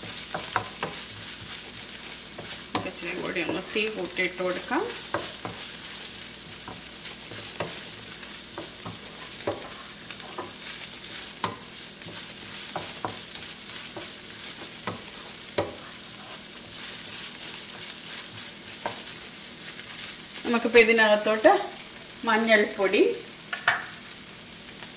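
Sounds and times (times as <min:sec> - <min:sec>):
wooden spatula scraping pan: 0:00.0 - 0:20.8
onions sizzling in oil: 0:00.0 - 0:24.9.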